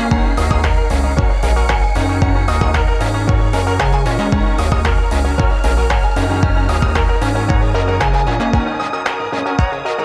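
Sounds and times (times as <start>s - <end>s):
deep bass line: 0.0s - 8.8s
kick-drum beat: 0.0s - 8.8s, 9.6s - 9.8s
electronic music: 0.0s - 10.0s.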